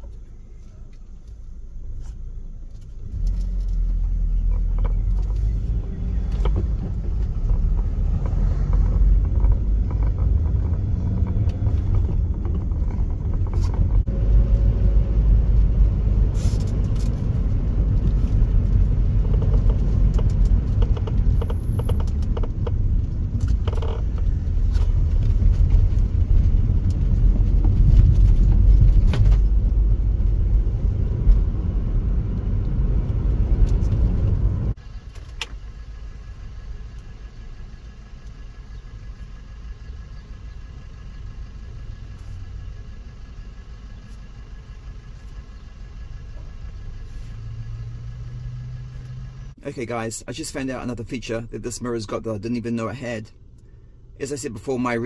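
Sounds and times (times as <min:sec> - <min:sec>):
engine and tyre road noise: 0:00.0 - 0:55.0.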